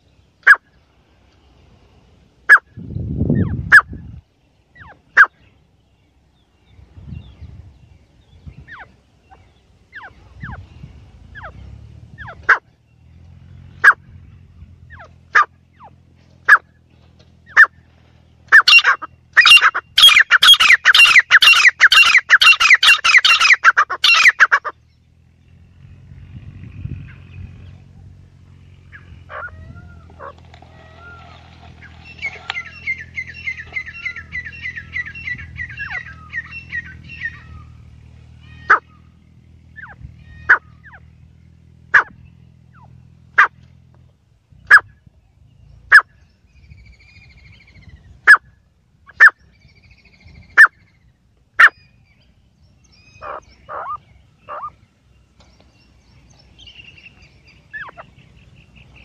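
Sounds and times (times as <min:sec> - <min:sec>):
francolin calling: 0:00.0 - 0:25.7, 0:26.8 - 0:43.6, 0:44.6 - 0:59.0.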